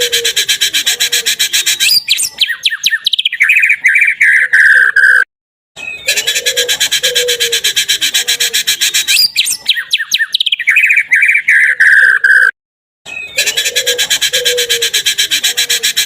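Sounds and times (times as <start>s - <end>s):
recorded songbird song: 0.0s - 16.0s.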